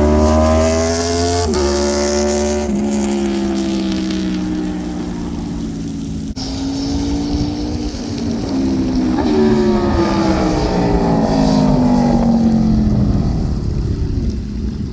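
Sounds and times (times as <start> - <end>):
motorcycle engine flyby: 0.0 - 14.9.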